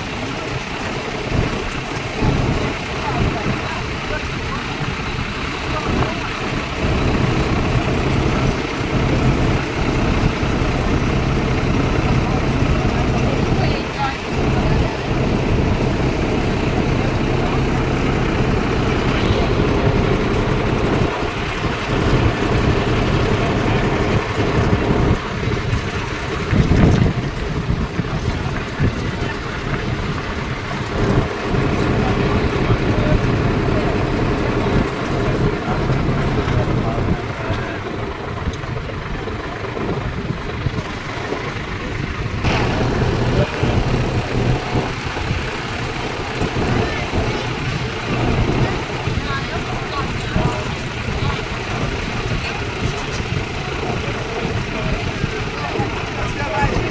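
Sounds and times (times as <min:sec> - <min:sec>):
rush of noise: 0:00.0 - 0:56.9
tractor engines droning: 0:00.0 - 0:56.9
wind on microphone: 0:00.0 - 0:56.9.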